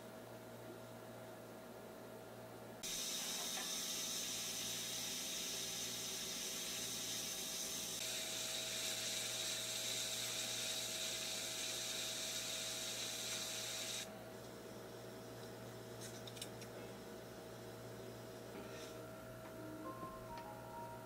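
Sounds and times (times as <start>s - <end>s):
faint electrical hum: 0.0s - 21.0s
room tone hiss: 0.0s - 21.0s.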